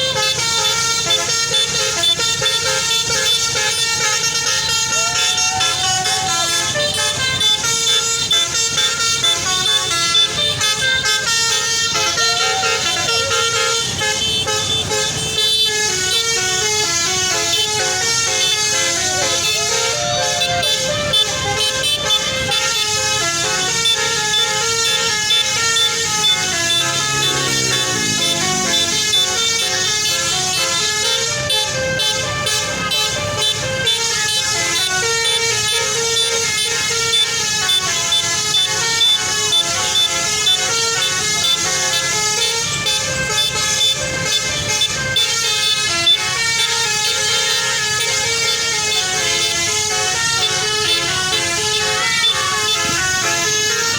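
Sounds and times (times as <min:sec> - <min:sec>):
bus musical horn melody: 0:00.0 - 0:53.9.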